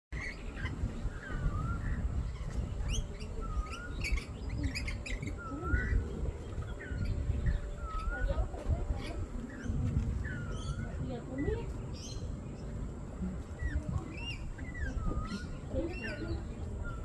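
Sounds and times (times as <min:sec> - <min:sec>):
low rumble: 0:00.2 - 0:17.0
parrots chirping: 0:00.2 - 0:17.0.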